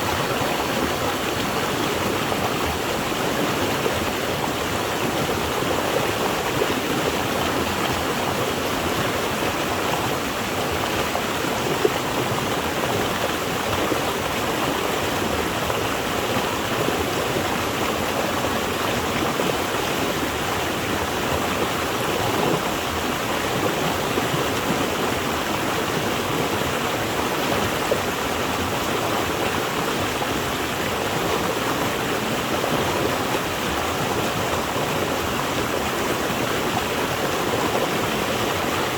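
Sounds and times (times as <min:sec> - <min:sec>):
water rushing and splashing: 0:00.0 - 0:38.9.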